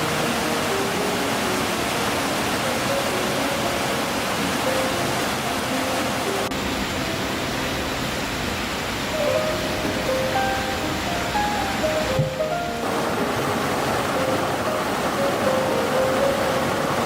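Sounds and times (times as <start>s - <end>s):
faint background music: 0.0s - 17.0s
running water rushing: 0.0s - 17.0s.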